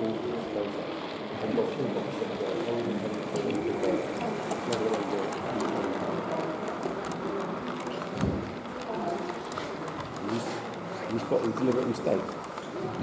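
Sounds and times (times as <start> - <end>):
chatter of many voices: 0.0 - 13.0.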